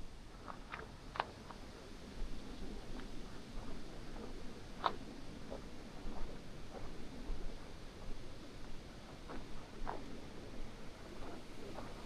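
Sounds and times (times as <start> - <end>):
low background hiss: 0.0 - 12.0
soft footsteps on path: 0.0 - 12.0.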